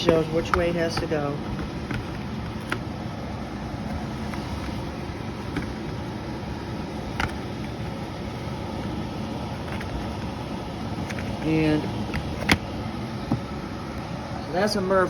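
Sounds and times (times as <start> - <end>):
furnace blower running: 0.0 - 15.0.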